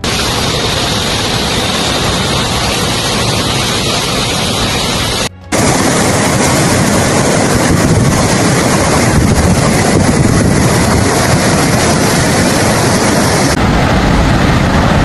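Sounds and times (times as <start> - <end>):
loud rushing water: 0.0 - 15.0.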